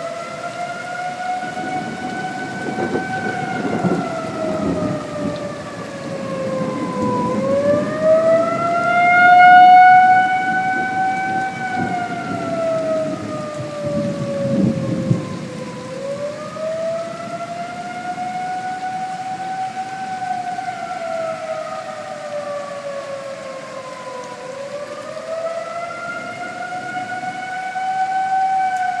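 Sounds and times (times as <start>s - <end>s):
tornado siren wailing: 0.0s - 29.0s.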